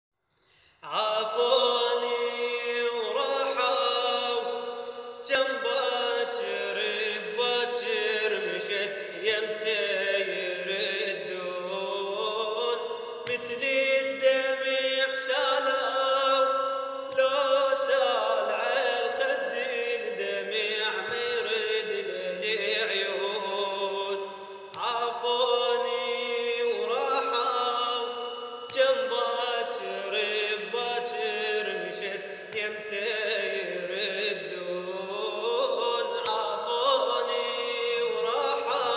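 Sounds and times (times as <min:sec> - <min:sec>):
man singing slow chant: 0:00.8 - 0:38.9.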